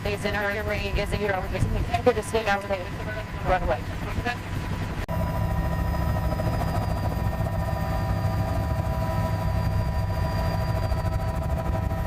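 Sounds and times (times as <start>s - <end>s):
constant whining tones: 0.0s - 12.0s.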